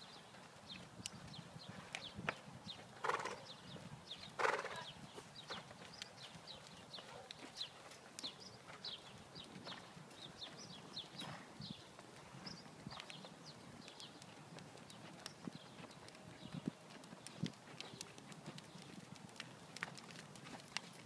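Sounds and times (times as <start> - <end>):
horse hoofbeats on sand: 0.0 - 21.0.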